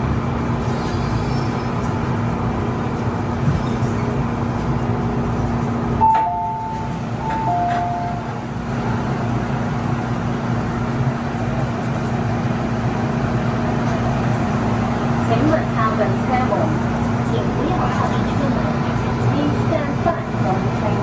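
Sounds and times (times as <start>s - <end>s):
train interior hum and rumble: 0.0s - 21.0s.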